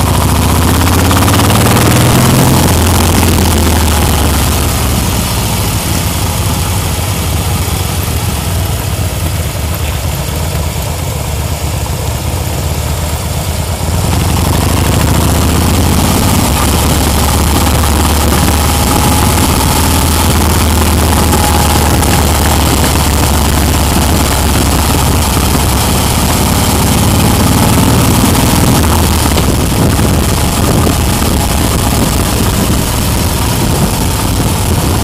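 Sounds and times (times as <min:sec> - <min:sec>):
wind rush on microphone: 0:00.0 - 0:10.4, 0:12.3 - 0:35.0
motorcycle engine running: 0:00.0 - 0:35.0.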